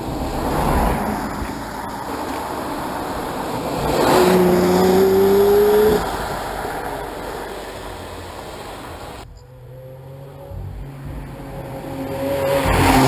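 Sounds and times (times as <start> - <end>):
car engine accelerating hard: 0.0 - 13.0
road noise from passing traffic: 0.0 - 13.0.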